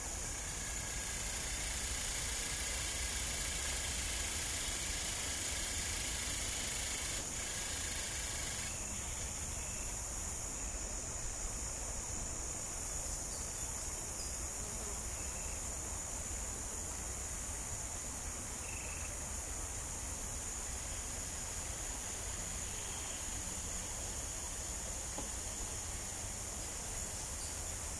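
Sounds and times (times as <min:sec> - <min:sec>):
insects high-pitched whine: 0:00.0 - 0:27.9.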